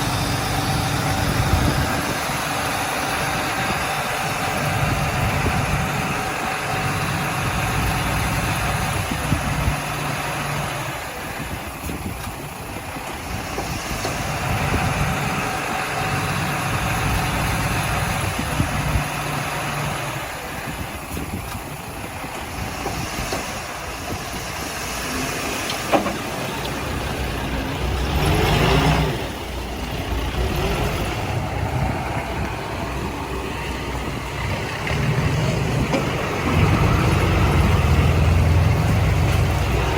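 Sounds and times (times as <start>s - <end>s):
heavy diesel engines working: 0.0s - 39.9s.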